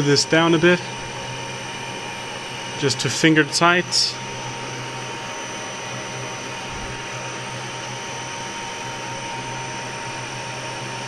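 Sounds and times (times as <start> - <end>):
milling machine whirring: 0.0 - 11.0.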